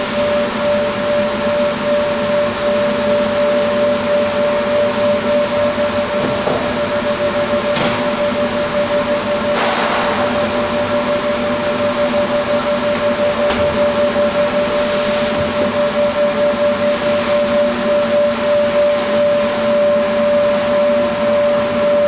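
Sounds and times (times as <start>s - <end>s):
cutting machine hum and whine: 0.0s - 22.0s.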